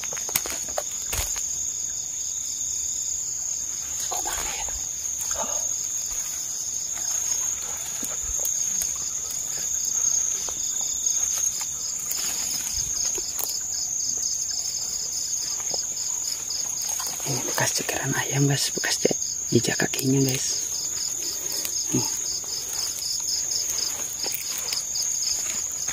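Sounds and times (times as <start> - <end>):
crickets trilling: 0.0 - 25.9
pulsed insect chirping: 0.0 - 25.9.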